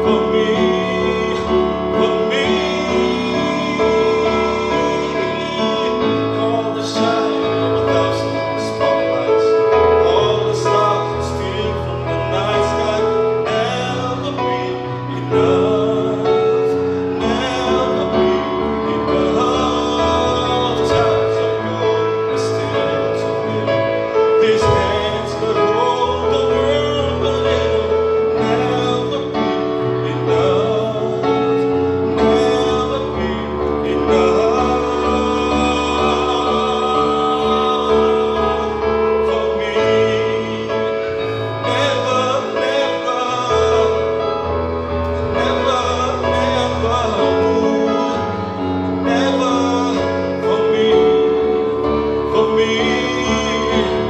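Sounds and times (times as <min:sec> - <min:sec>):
instrumental accompaniment: 0:00.0 - 0:54.0
man singing into microphone: 0:00.0 - 0:54.0.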